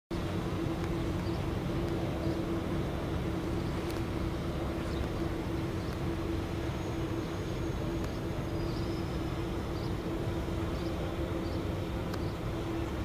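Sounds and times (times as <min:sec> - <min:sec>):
low mechanical hum: 0:00.1 - 0:13.0.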